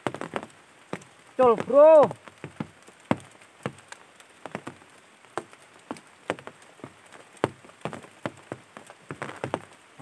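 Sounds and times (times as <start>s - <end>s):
drops tapping: 0.0s - 9.8s.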